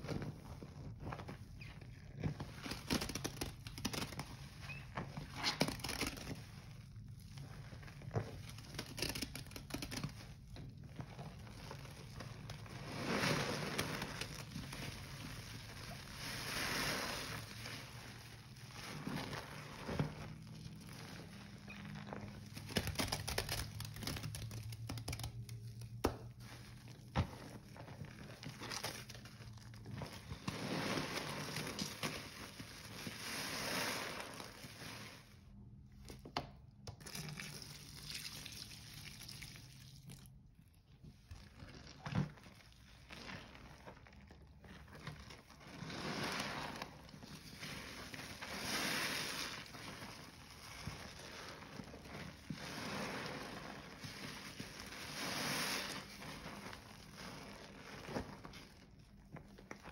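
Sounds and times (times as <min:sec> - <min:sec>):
wet squelching of soapy sponges: 0:00.0 - 0:59.9.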